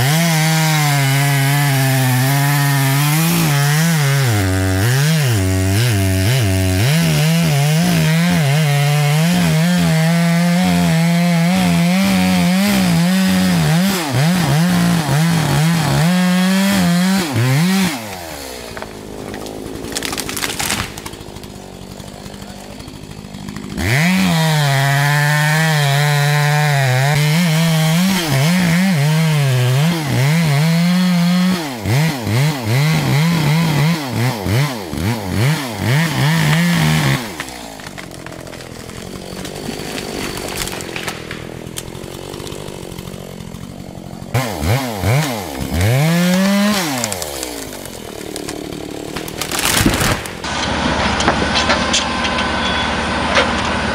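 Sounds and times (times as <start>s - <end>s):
chainsaw cutting at full throttle: 0.0s - 53.9s.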